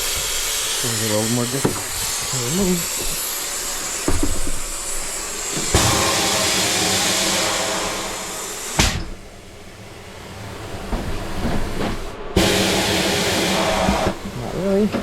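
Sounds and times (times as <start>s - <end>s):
compressed air hissing: 0.0s - 14.9s.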